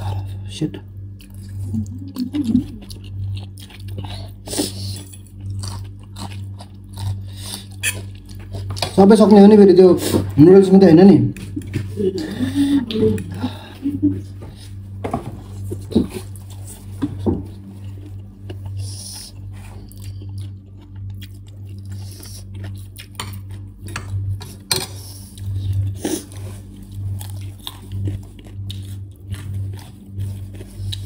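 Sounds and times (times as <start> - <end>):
people chewing noodles: 0.0 - 9.1, 11.3 - 31.0
steady low hum: 0.0 - 31.0.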